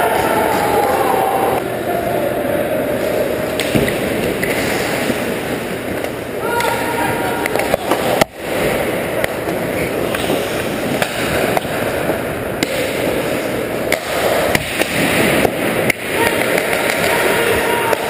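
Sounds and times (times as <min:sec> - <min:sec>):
hockey sticks and puck clacking: 0:03.5 - 0:18.0.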